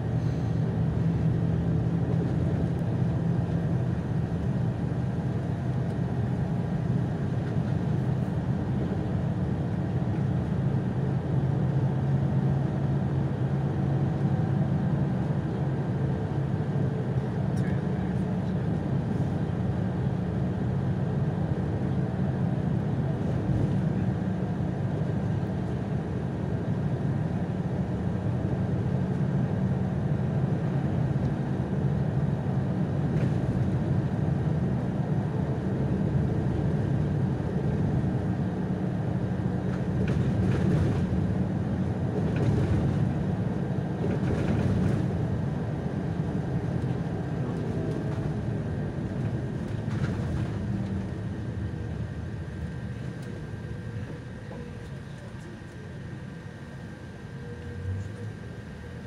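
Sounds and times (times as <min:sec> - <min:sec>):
bus engine drone: 0:00.0 - 0:59.0
road and tyre noise: 0:00.0 - 0:59.0.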